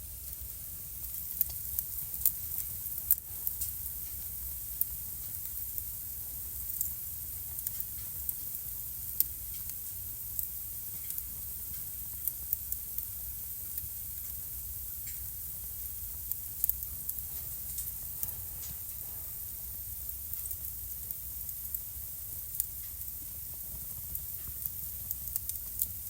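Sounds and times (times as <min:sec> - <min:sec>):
fire popping and crackling: 0:00.0 - 0:26.0
fire rumbling and hissing: 0:00.0 - 0:26.0.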